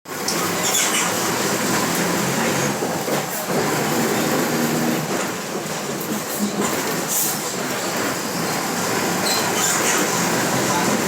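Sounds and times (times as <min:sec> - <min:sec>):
bus differential growling: 0:00.1 - 0:11.0.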